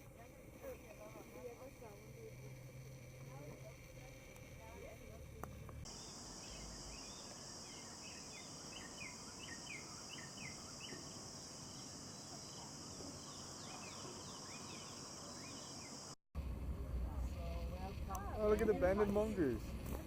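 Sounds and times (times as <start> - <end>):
high-pitched insect chorus: 0.0 - 16.2, 17.0 - 20.0.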